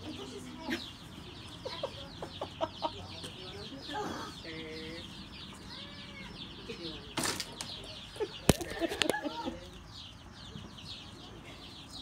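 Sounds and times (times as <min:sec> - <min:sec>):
young raccoons chittering: 0:00.0 - 0:12.0.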